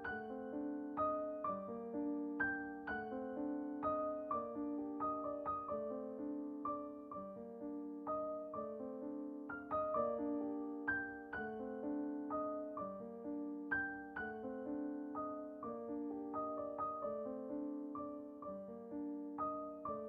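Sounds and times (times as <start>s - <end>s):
gentle solo piano: 0.0s - 20.0s.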